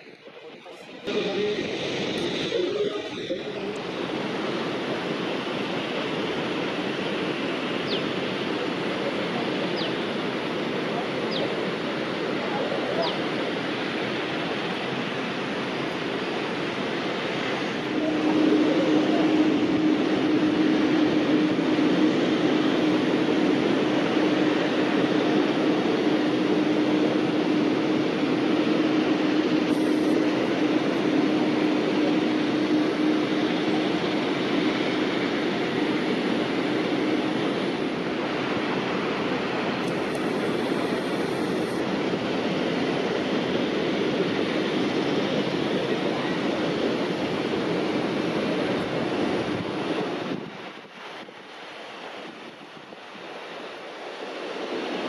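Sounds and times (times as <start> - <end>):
jet engines rushing: 0.0 - 55.0.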